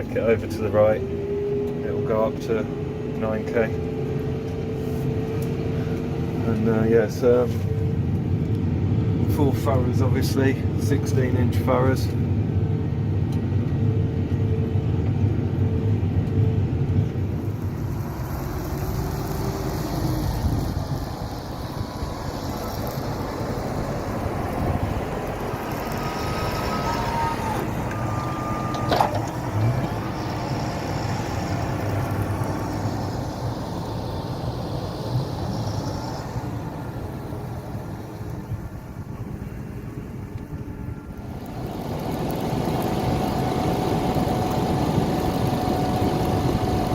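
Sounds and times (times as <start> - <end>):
tractor engine droning under load: 0.0 - 46.9.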